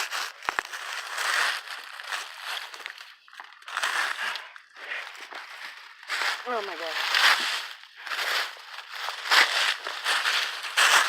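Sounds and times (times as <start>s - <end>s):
dry leaves crunching and rustling: 0.0s - 11.0s.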